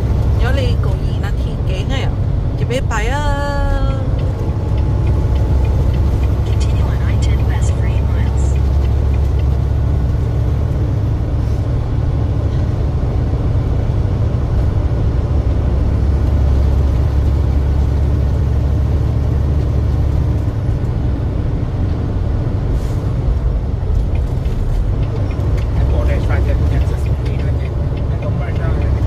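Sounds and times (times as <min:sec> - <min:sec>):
heavy truck engine rumble: 0:00.0 - 0:29.0.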